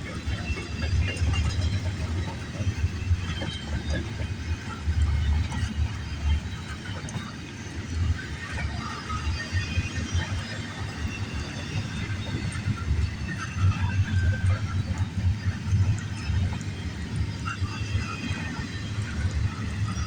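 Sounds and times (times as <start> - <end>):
freight train wheels rumbling: 0.0 - 20.0
rail clicks: 0.0 - 20.0.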